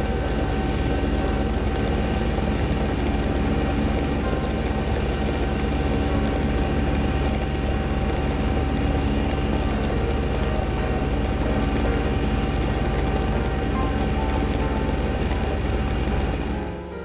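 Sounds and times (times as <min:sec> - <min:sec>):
snowblower throwing snow: 0:00.0 - 0:16.7
thin steady whine: 0:00.0 - 0:17.0
tractor diesel engine running: 0:00.0 - 0:17.0.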